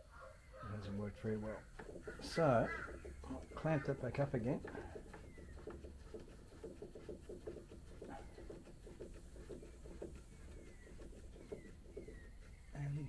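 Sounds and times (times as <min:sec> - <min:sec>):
quick low bird calls: 0:00.0 - 0:13.0.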